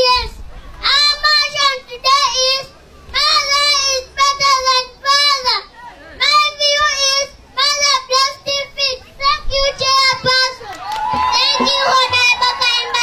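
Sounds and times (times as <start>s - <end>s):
boy chanting: 0.0s - 10.7s, 11.3s - 13.0s.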